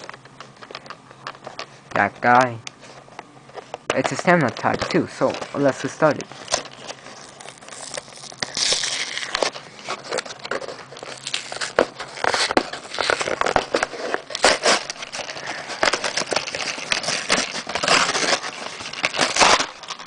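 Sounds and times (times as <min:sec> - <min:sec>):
plastic packaging being torn open: 0:03.9 - 0:20.0.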